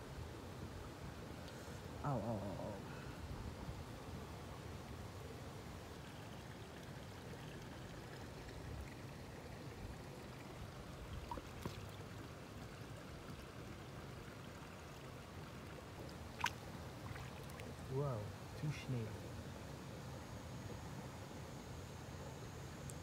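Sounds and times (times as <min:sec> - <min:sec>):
flowing creek water: 0:00.0 - 0:23.0.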